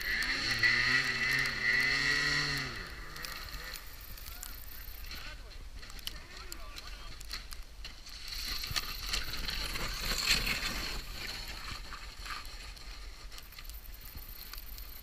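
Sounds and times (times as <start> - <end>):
snowmobile sliding down snow: 0.0 - 15.0.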